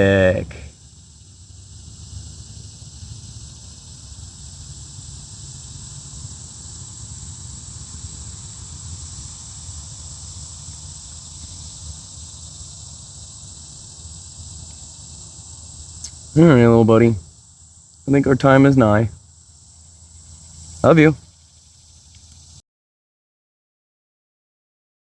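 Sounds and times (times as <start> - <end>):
insect chorus buzzing: 0.0 - 22.6.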